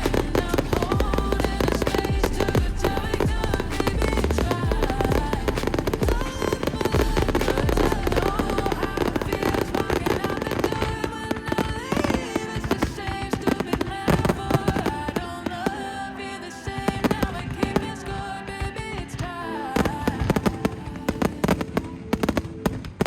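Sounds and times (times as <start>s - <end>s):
music playing: 0.0s - 23.0s.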